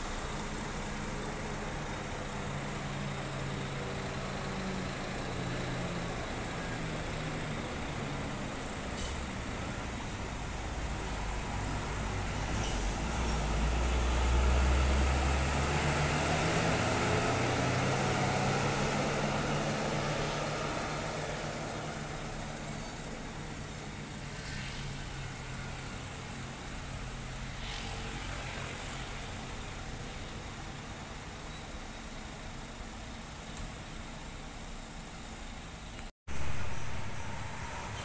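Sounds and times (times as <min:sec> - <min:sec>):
coach diesel engine pulling away: 0:00.0 - 0:38.0.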